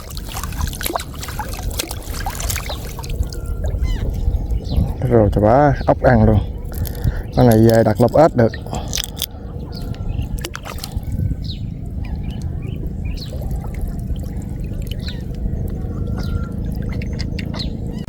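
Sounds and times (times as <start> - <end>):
steady low rumble: 0.0 - 18.0
water trickling and dripping: 0.0 - 18.0.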